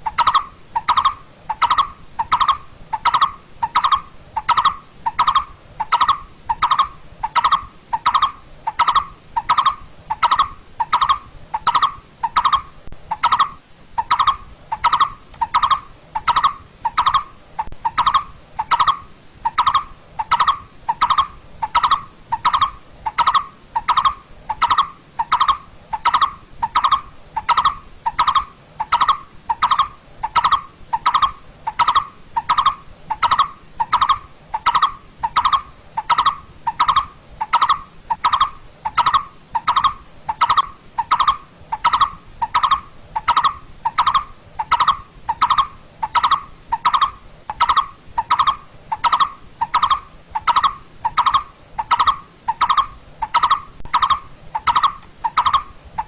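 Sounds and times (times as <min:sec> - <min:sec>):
barbet calling: 0:00.0 - 0:56.0.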